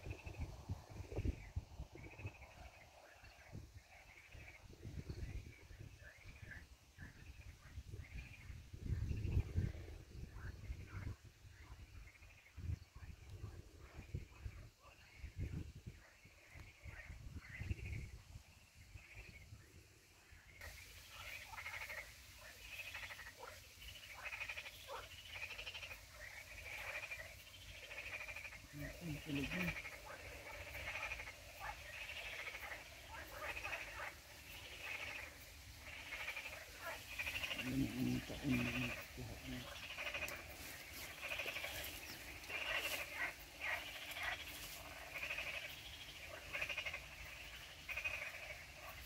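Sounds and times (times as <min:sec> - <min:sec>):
frogs croaking: 0:00.0 - 0:49.0.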